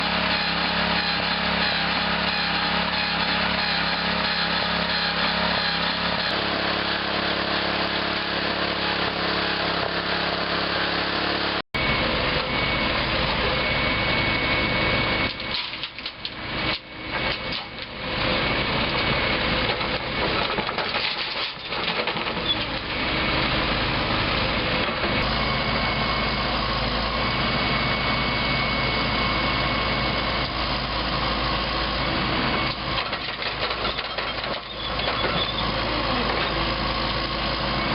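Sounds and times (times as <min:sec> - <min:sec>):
heavy construction engines running: 0:00.0 - 0:37.9.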